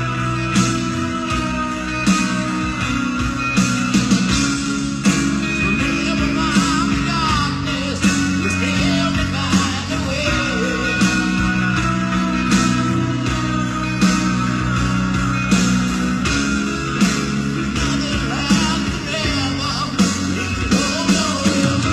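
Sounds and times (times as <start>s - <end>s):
live rock band playing ballad: 0.0s - 21.9s.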